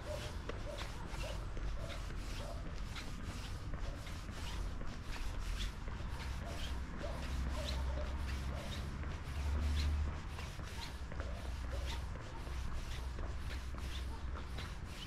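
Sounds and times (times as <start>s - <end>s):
walking footsteps: 0.0s - 15.0s.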